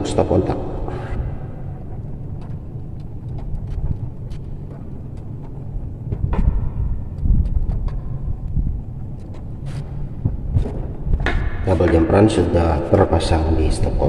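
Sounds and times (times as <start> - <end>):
handling noise: 0.0 - 12.6
steady low rumble: 0.0 - 14.0.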